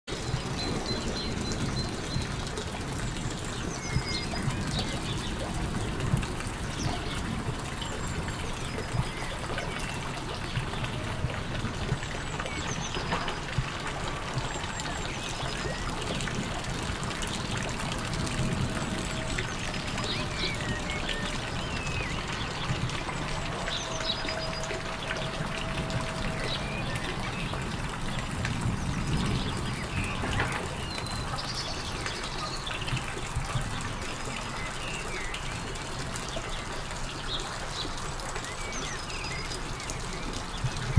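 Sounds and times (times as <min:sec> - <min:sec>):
birds chirping: 0:00.1 - 0:40.9.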